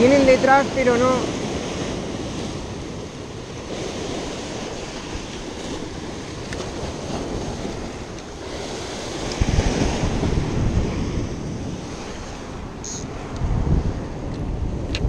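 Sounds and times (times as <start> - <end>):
sea surf breaking over rocks: 0.0 - 15.0
wind buffeting microphone: 0.0 - 15.0.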